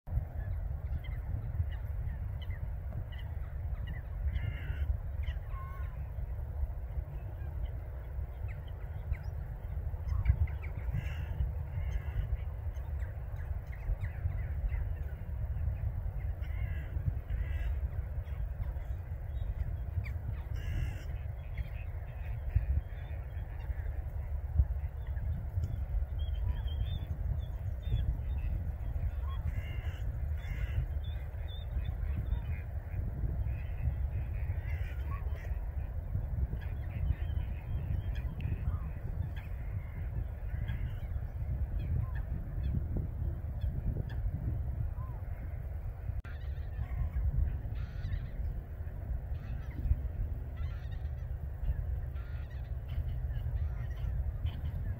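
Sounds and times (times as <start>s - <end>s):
low rumble: 0.1s - 54.9s
bird calls: 0.3s - 6.3s, 6.9s - 54.9s.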